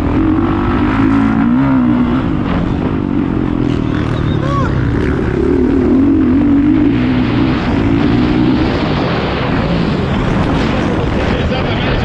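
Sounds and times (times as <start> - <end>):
dirt bike engine running hard: 0.0 - 12.0.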